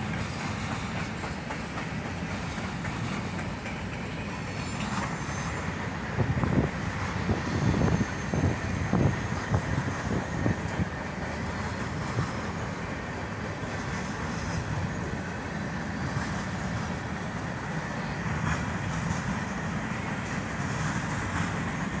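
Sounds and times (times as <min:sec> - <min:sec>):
freight train rolling past: 0:00.0 - 0:22.0
steel wheels rumbling on rail: 0:00.0 - 0:22.0
train wheel clacks: 0:00.0 - 0:22.0.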